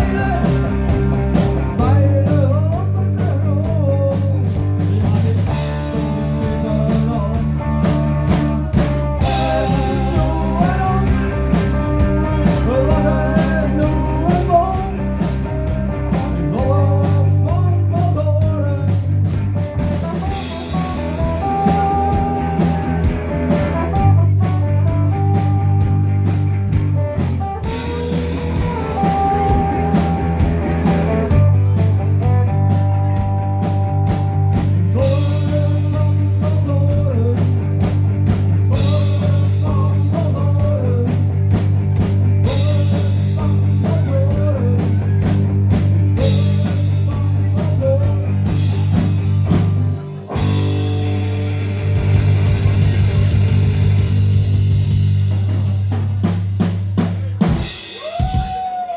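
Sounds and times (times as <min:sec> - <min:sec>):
rock music with guitar and drums: 0:00.0 - 0:58.9.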